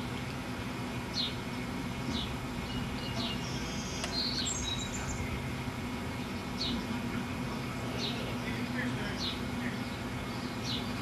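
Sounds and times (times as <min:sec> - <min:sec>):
bird chirping: 0:00.0 - 0:11.0
steady low background hum: 0:00.0 - 0:11.0.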